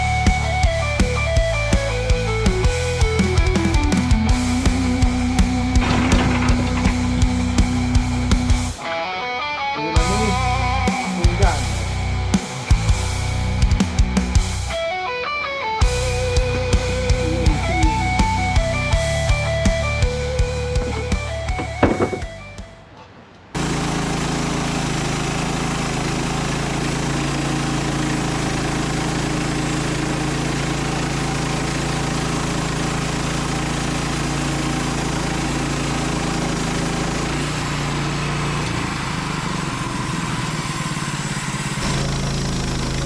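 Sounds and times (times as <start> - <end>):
sawmill engine running: 0.0 - 8.8, 10.0 - 14.8, 15.8 - 22.9, 23.6 - 43.0.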